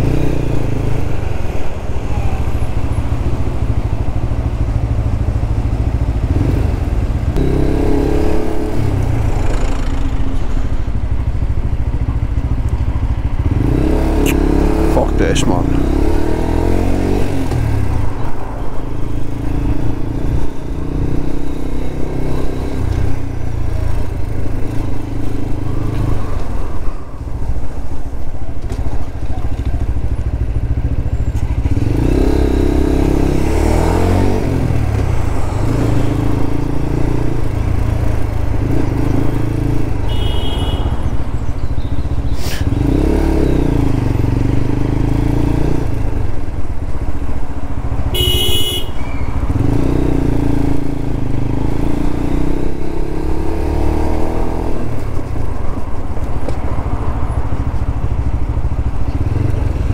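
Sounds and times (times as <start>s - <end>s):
motorcycle engine accelerating: 0.0s - 26.5s, 29.0s - 59.9s.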